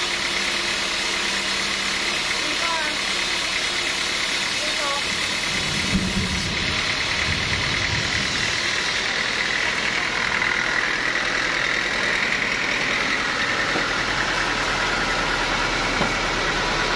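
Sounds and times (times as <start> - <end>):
sawmill machinery running: 0.0 - 16.9.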